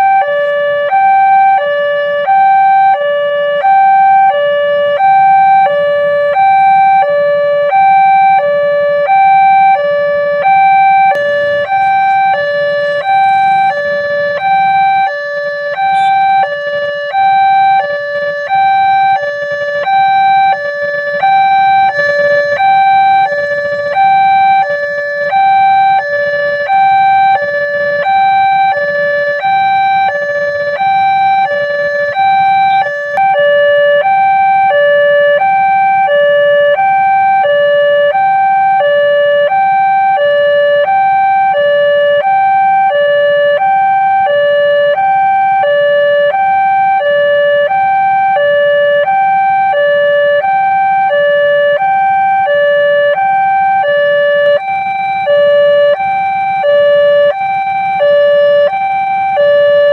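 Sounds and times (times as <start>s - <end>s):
level-crossing two-tone alarm: 0.0s - 59.9s.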